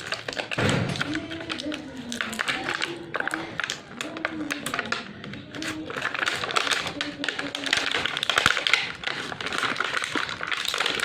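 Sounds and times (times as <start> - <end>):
packaging crackling: 0.0 - 11.0.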